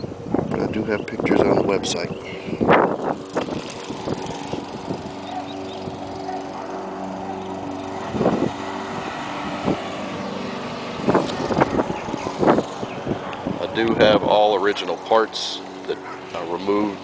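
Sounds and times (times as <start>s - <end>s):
engine idling: 0.8s - 17.0s.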